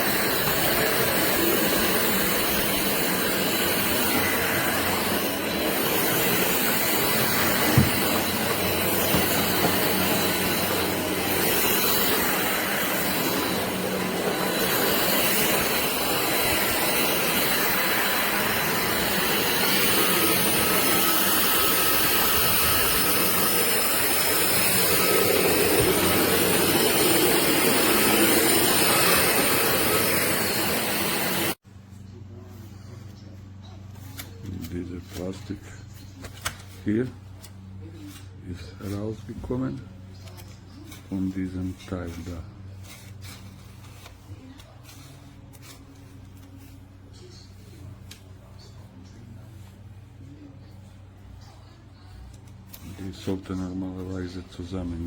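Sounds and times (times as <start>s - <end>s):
stick vacuum running: 0.0s - 31.7s, 32.3s - 55.0s.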